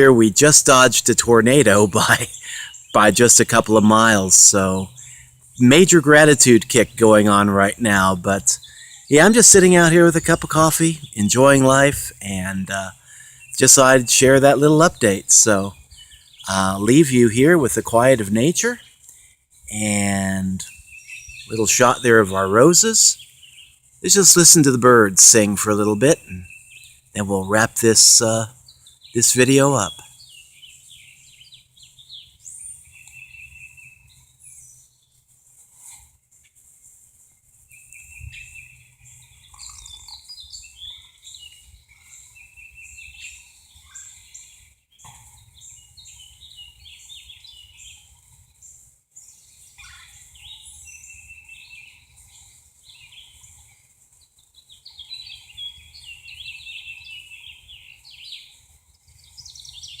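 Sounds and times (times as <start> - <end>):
songbirds chirping and trilling: 0.0 - 60.0.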